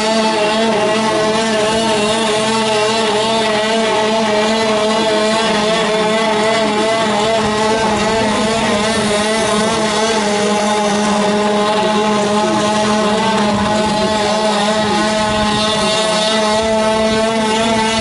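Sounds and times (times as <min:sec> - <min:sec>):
robot engine drone: 0:00.0 - 0:18.0.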